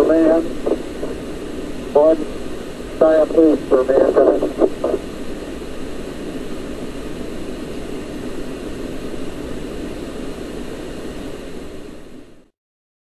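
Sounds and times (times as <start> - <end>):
radio hiss and static: 0.0 - 12.3.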